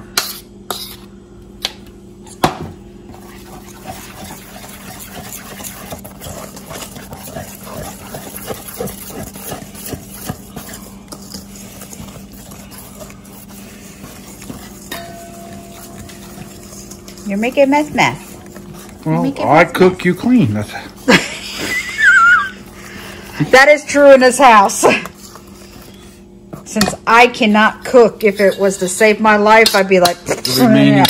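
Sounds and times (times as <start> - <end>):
steady low hum: 0.0 - 31.0
whisk scraping metal bowl: 0.2 - 1.1, 3.1 - 27.2, 27.9 - 30.9.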